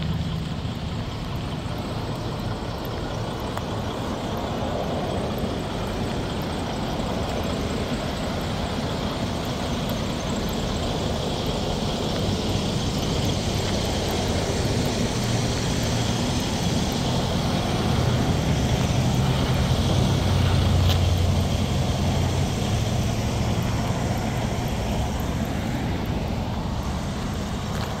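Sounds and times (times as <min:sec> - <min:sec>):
diesel truck engine idling: 0:00.0 - 0:28.0
roadway traffic noise: 0:00.0 - 0:28.0.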